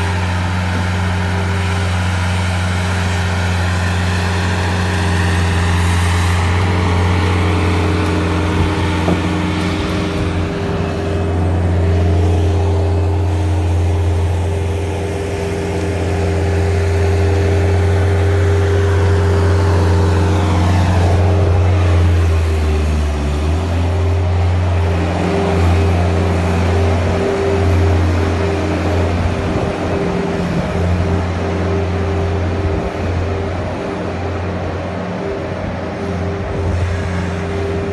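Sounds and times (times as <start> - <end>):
loader engine running: 0.0 - 37.9.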